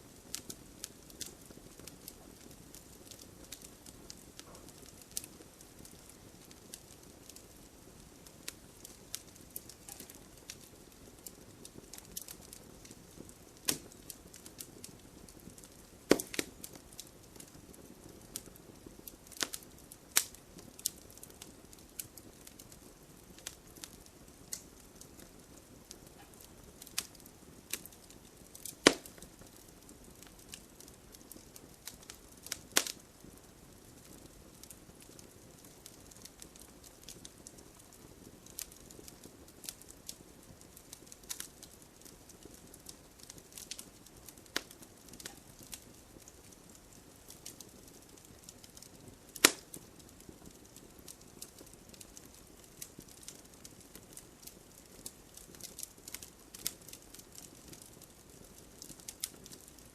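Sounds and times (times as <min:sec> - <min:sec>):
campfire crackling and popping: 0:00.0 - 0:59.9
faint steady hiss: 0:00.0 - 0:59.9.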